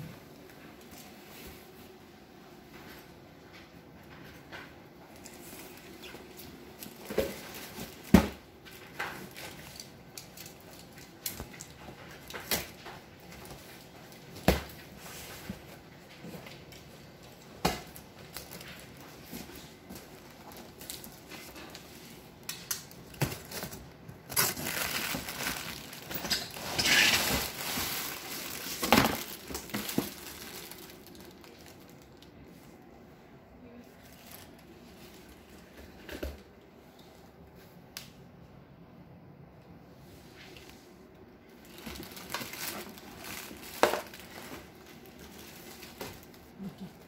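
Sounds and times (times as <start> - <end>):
plastic wrapping rustling: 0.2 - 33.0, 33.6 - 36.5, 40.4 - 47.0.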